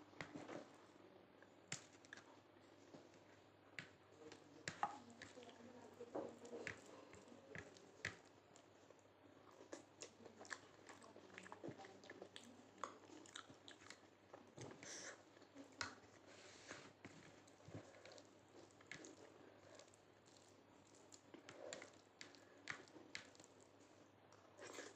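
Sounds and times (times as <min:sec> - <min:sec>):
close chewing and mouth smacks: 0:01.4 - 0:24.9.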